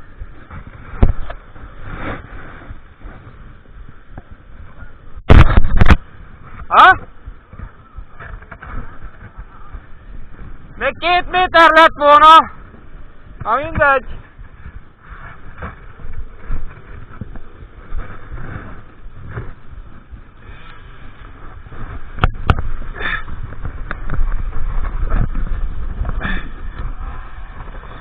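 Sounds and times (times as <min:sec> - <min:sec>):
dirt bike engine rumble: 0:00.0 - 0:10.8, 0:11.9 - 0:28.0.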